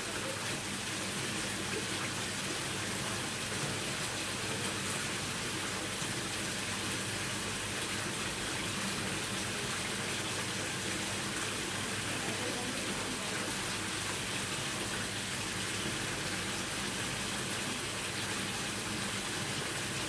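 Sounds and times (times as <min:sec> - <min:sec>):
water pouring and splashing: 0:00.0 - 0:20.0.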